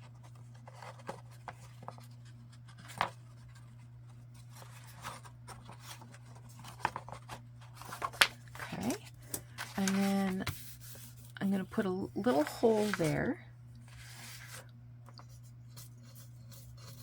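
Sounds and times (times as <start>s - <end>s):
paper and card rustling: 0.0s - 17.0s
steady low hum: 0.0s - 17.0s.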